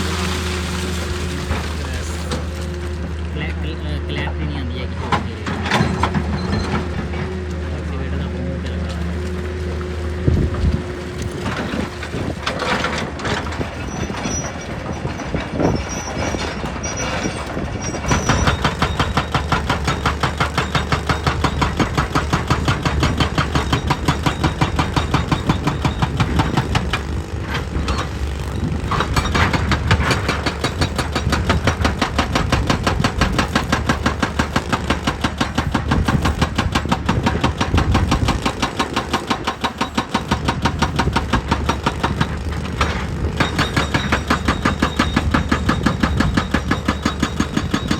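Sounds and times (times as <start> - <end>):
heavy machinery running: 0.0 - 47.9.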